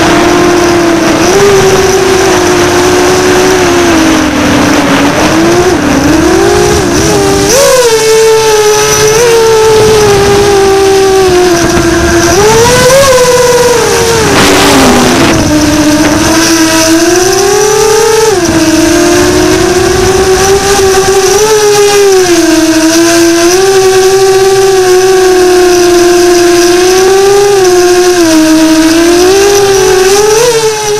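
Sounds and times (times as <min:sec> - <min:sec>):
drone motors whining: 0:00.0 - 0:30.9
wind noise: 0:00.0 - 0:30.9.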